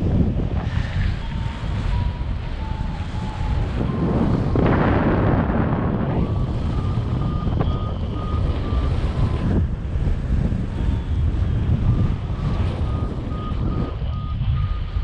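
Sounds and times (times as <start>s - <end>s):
wind rushing over microphone: 0.0s - 15.0s
variometer beeping: 1.1s - 9.7s, 10.8s - 15.0s.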